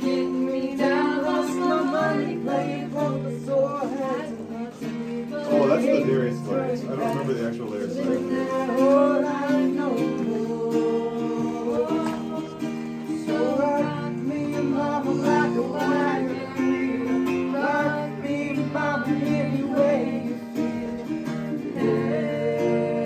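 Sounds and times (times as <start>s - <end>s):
acoustic guitar strumming: 0.0s - 23.0s
person singing wordless melody: 0.0s - 23.0s.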